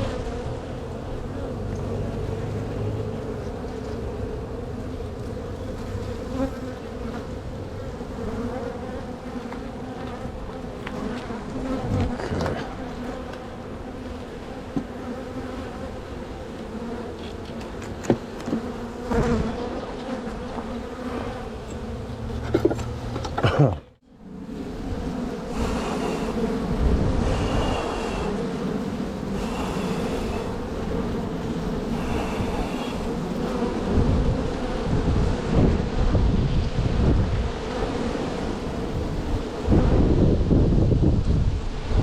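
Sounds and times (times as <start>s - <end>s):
bees buzzing: 0.0s - 40.7s.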